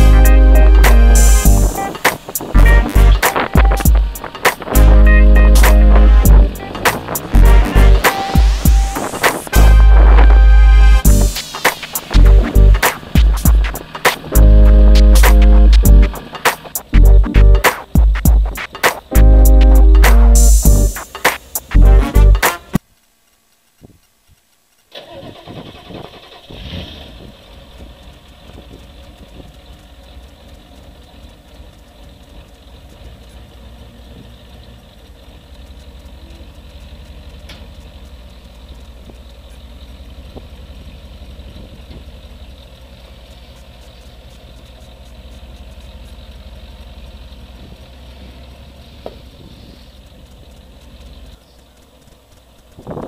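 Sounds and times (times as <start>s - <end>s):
vehicle engine starting and idling: 0.0s - 53.0s.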